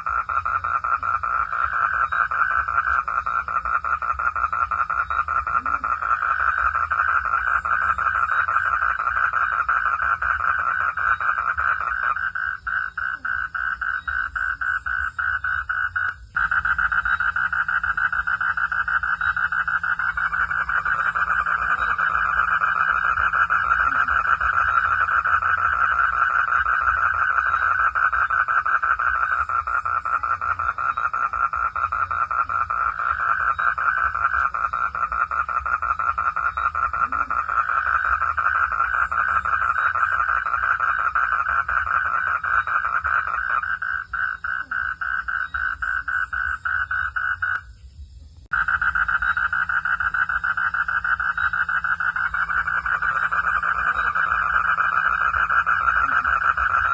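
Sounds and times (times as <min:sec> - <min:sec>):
frog pulsed trill: 0:00.0 - 0:47.8, 0:48.5 - 0:56.9.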